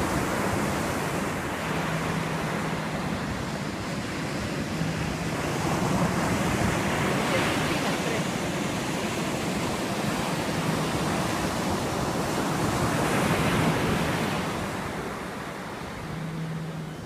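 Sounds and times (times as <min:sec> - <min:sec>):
ocean surf washing ashore: 0:00.0 - 0:17.0
wind on microphone: 0:00.0 - 0:17.0.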